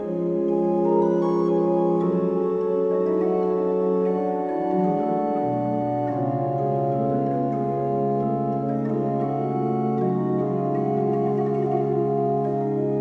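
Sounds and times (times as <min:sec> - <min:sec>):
organ chords: 0:00.0 - 0:13.0.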